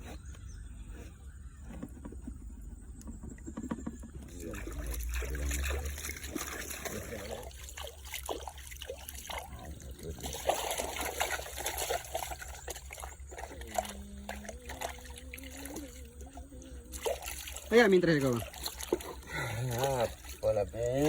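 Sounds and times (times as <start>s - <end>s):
water trickling and sloshing: 0.3s - 21.0s.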